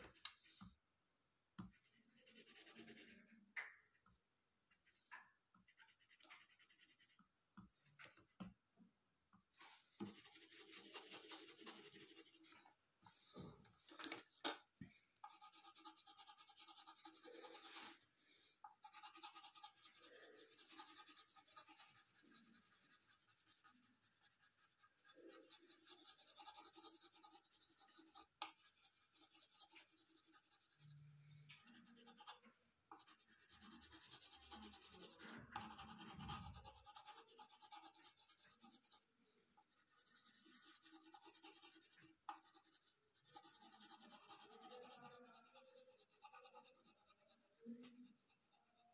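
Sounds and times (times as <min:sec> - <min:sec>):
pencil scratching on paper: 0:01.6 - 0:03.4, 0:04.7 - 0:07.3, 0:09.6 - 0:13.5, 0:14.5 - 0:48.9.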